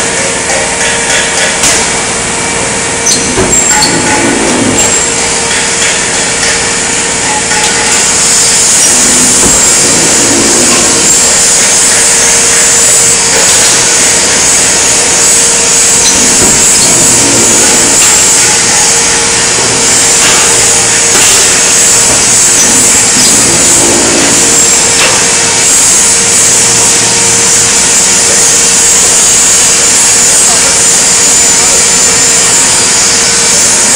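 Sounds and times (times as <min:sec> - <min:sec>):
constant machine hum: 0:00.0 - 0:33.9
machinery loud steady hiss: 0:00.0 - 0:33.9.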